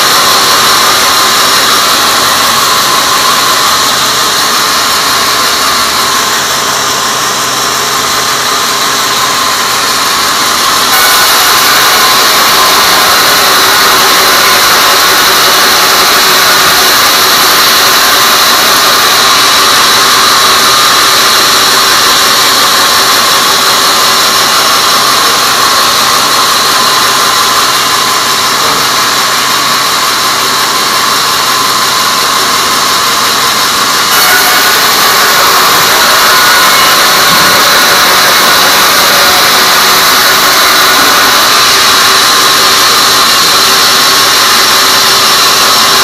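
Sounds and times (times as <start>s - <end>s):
band saw cutting log: 0.0s - 46.0s
high-pitched saw whine: 0.0s - 46.0s.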